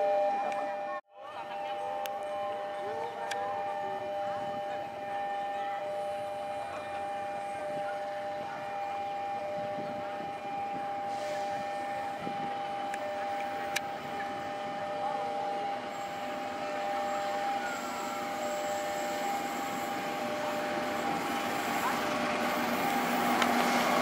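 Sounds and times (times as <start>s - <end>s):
train rumble: 0.7s - 24.0s.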